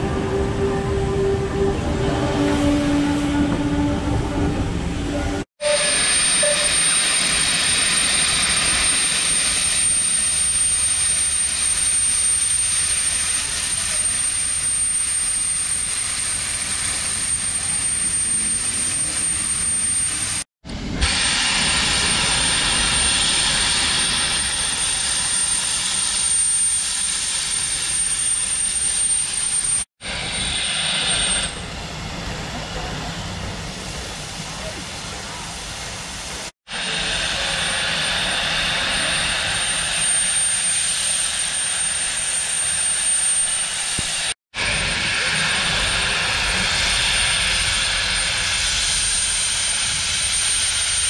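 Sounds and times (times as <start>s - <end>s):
railway coaches rolling past: 0.0s - 51.0s
steam locomotive hissing: 0.0s - 51.0s.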